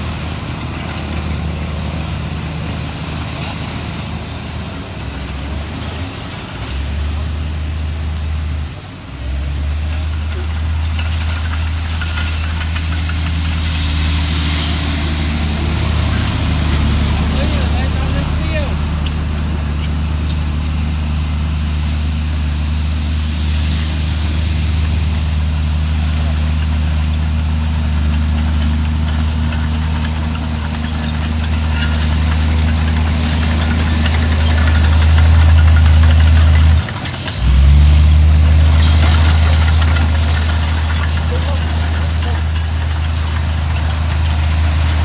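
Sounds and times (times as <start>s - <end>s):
heavy diesel engine droning: 0.0s - 45.0s.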